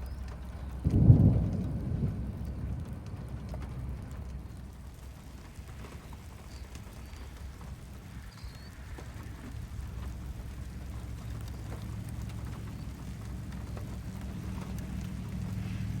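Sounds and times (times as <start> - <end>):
heavy rain: 0.0 - 16.0
thunder clap rumbling: 0.6 - 16.0.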